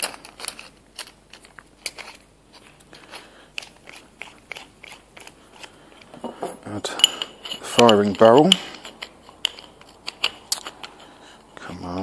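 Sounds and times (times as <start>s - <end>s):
metal parts clicking and scraping: 0.0s - 12.0s.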